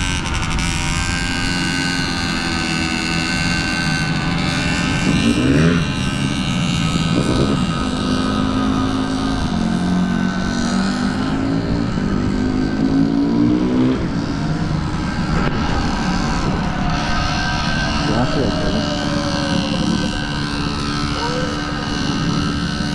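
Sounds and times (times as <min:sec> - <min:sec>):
dirt bike engine revving: 0:00.0 - 0:22.9.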